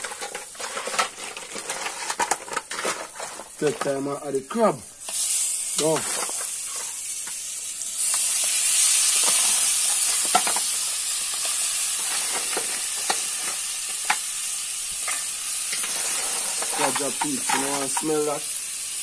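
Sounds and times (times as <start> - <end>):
crab sizzling in hot oil: 0.0 - 19.0.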